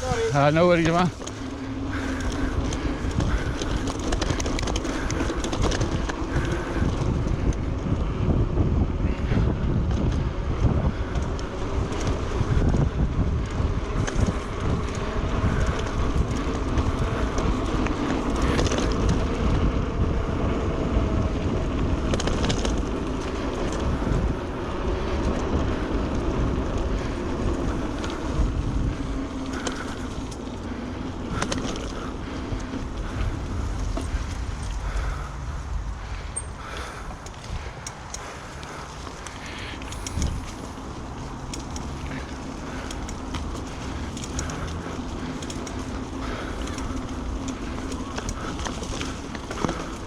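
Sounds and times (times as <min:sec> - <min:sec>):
mountain bike rumble and rattle: 0:00.0 - 0:50.0
wind buffeting microphone: 0:00.0 - 0:50.0.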